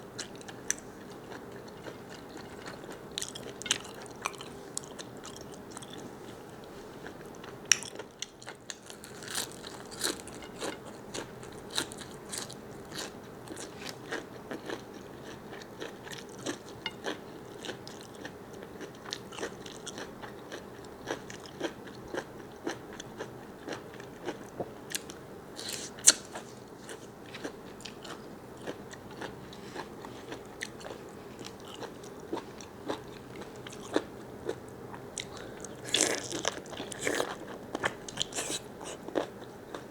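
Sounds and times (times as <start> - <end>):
person chewing squid: 0.2 - 6.0, 7.0 - 39.9.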